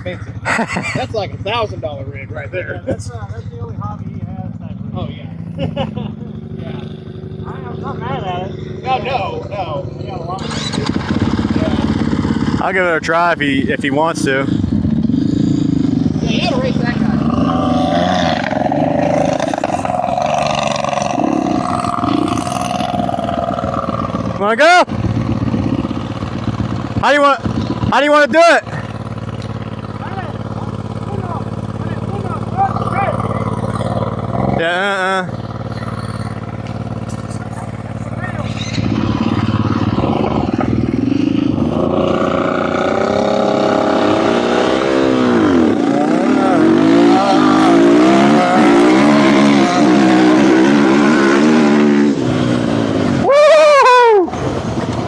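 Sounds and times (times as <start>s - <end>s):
dirt bike engine idling: 0.0s - 55.0s.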